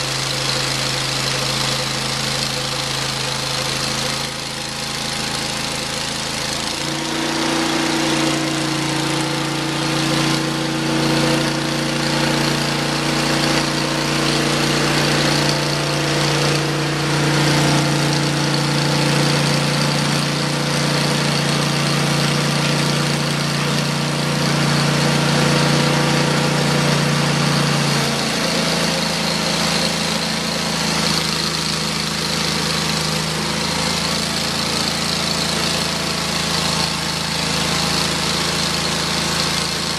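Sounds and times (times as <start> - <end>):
band blade sawing log: 0.0 - 39.9
sawmill engine running: 0.0 - 39.9.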